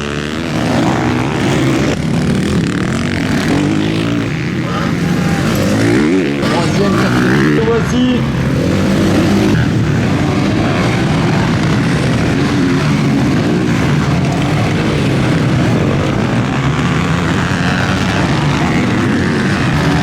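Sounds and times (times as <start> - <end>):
motocross bikes revving: 0.0 - 20.0.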